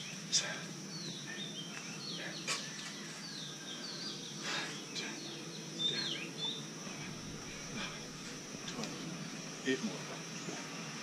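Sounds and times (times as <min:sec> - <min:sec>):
high insect buzz: 0:00.0 - 0:11.0
small birds chirping: 0:00.0 - 0:11.0.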